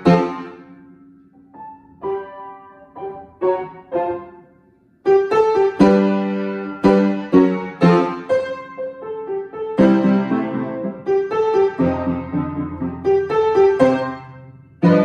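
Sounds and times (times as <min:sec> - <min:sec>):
child playing piano: 0:00.0 - 0:15.0.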